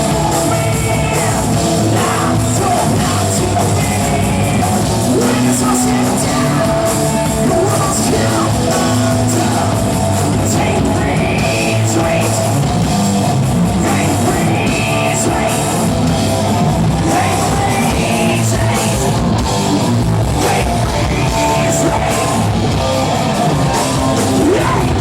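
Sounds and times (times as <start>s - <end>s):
person singing: 0.0s - 12.7s, 13.7s - 15.9s, 17.0s - 19.3s, 20.4s - 22.7s, 23.6s - 25.0s
rock band playing live: 0.0s - 25.0s.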